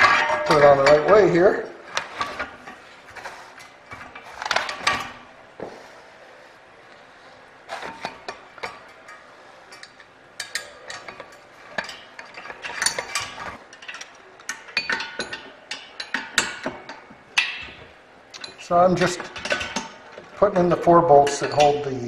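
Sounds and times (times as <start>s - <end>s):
metal bolts and nuts clinking: 0.0s - 5.3s, 7.7s - 22.0s.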